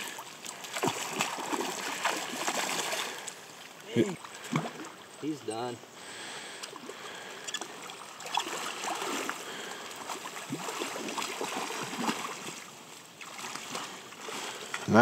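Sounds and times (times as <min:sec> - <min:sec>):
stream flowing: 0:00.0 - 0:15.0
water splashing and sloshing: 0:00.0 - 0:15.0.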